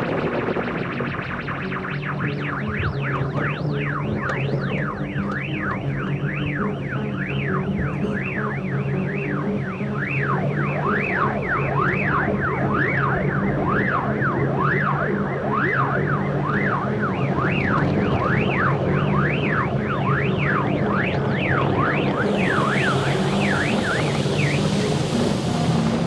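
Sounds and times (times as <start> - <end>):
low drone: 0.0 - 26.0
synthesizer tone wobbling in pitch: 0.0 - 26.0.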